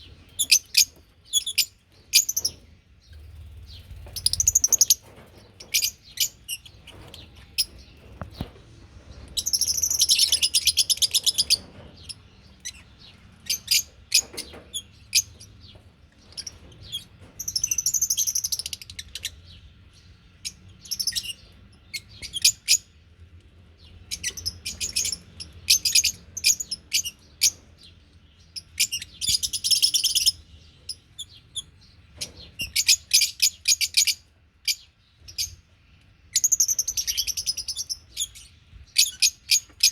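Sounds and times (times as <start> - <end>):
birds chattering rapidly: 0.0 - 39.9
birds chirping: 0.0 - 39.9.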